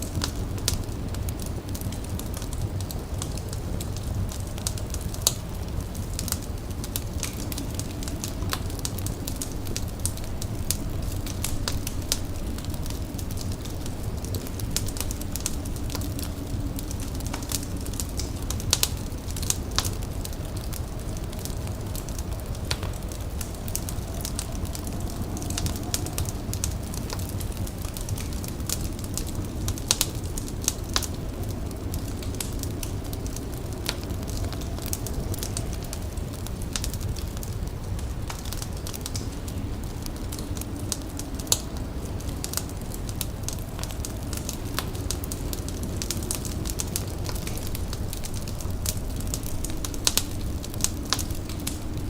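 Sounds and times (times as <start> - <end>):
fire crackling and popping: 0.0 - 52.0
low rumble: 1.8 - 52.0.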